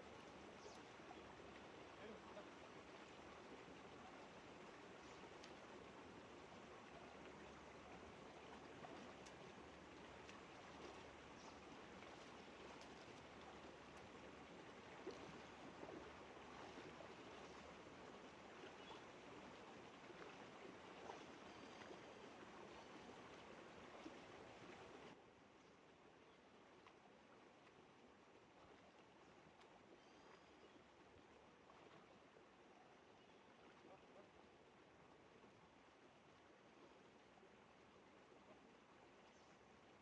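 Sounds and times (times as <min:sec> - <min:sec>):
faint running water: 0:00.0 - 0:40.0.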